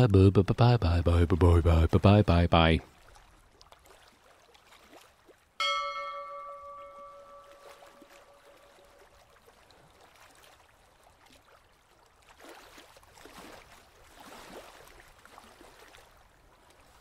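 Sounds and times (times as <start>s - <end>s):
water lapping and splashing: 2.6s - 17.0s.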